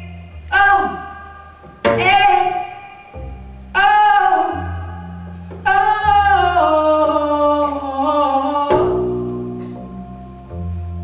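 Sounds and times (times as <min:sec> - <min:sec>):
double bass notes: 0:00.0 - 0:11.0
woman singing jazz: 0:00.0 - 0:11.0.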